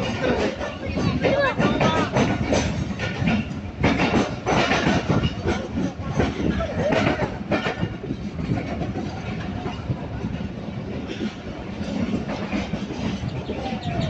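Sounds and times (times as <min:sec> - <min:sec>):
train running rumble: 0:00.0 - 0:14.0
train wheels knocking: 0:00.0 - 0:14.0.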